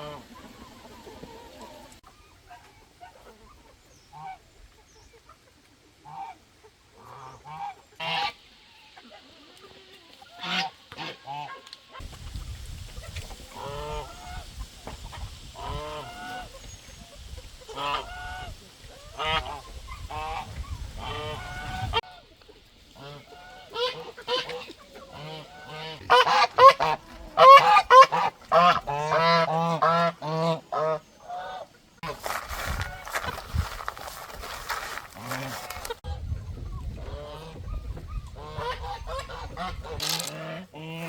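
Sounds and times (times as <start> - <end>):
geese honking: 0.0 - 4.4, 6.0 - 12.1, 13.0 - 36.2, 38.4 - 41.0.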